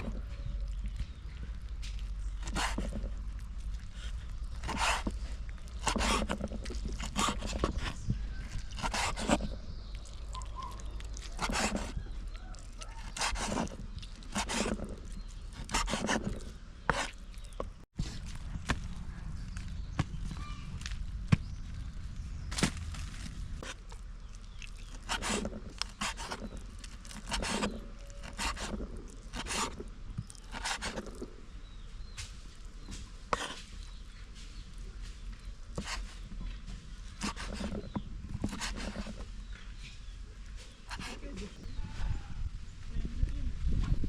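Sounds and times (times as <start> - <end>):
scrapes: 0.0 - 21.0, 24.8 - 31.3, 32.2 - 42.2.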